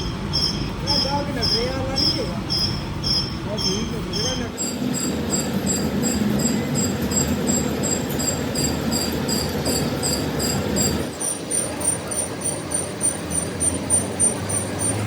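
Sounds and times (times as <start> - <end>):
high-pitched machine chirp: 0.0 - 15.0
workshop machine noise: 0.0 - 15.0.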